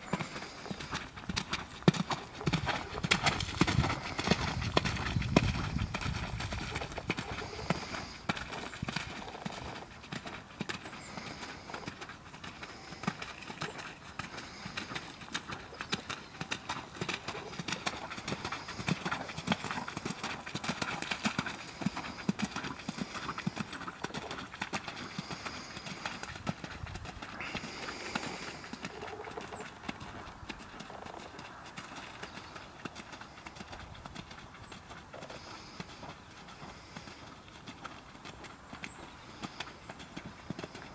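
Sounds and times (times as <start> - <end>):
horse hooves trotting on sand: 0.0 - 40.9.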